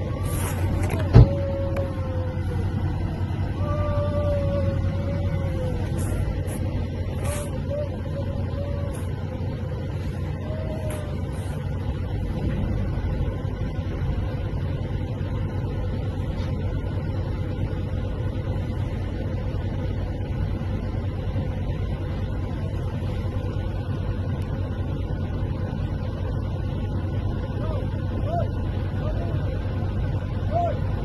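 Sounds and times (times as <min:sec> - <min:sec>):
car interior engine rumble: 0:00.0 - 0:31.0.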